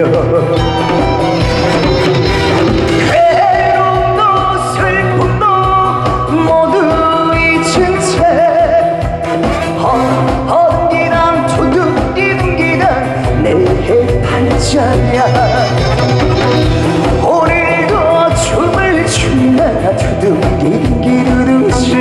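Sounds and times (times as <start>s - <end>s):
man singing: 0.0s - 2.0s, 2.8s - 22.0s
band playing with steady beat: 0.0s - 22.0s.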